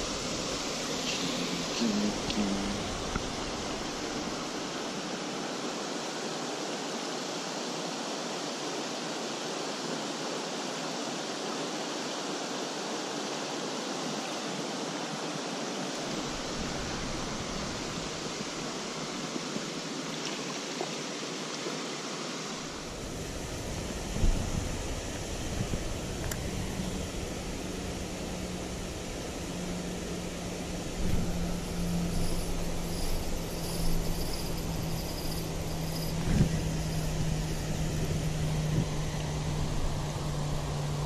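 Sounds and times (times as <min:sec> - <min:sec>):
stream running over rocks: 0:00.0 - 0:41.0.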